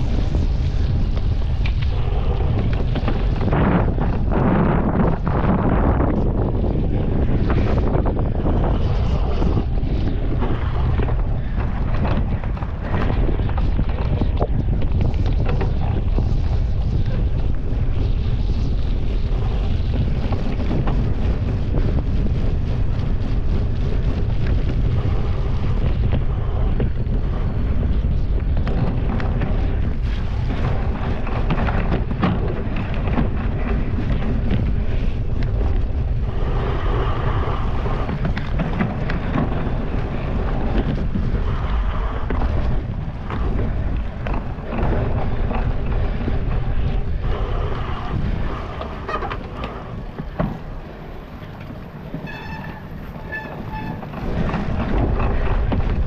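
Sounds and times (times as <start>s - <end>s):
bike rattling over rough ground: 0.0s - 56.0s
wind buffeting microphone: 0.0s - 56.0s.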